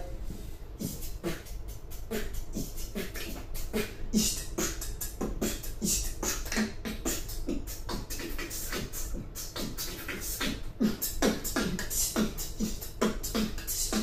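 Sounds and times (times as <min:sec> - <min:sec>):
person beatboxing: 0:00.0 - 0:14.0.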